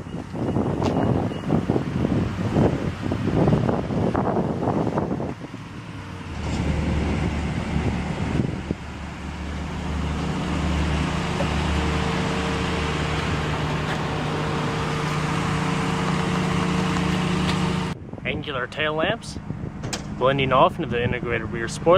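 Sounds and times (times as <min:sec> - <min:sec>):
higher engine tone: 0:00.0 - 0:21.9
vehicle engine low hum: 0:00.0 - 0:21.9.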